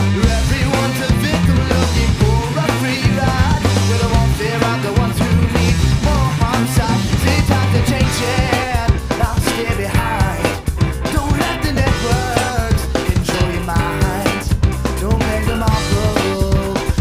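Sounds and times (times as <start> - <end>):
person singing: 0.0 - 17.0
rock band playing: 0.0 - 17.0.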